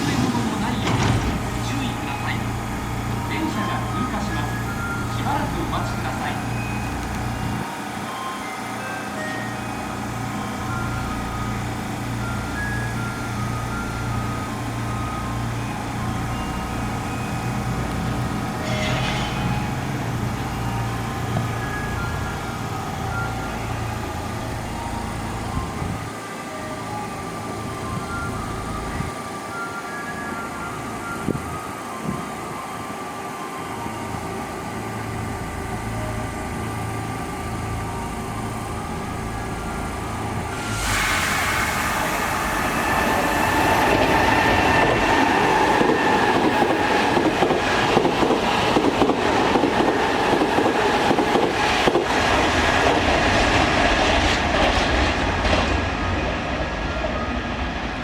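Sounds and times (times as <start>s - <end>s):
electric train humming: 0.0s - 58.0s.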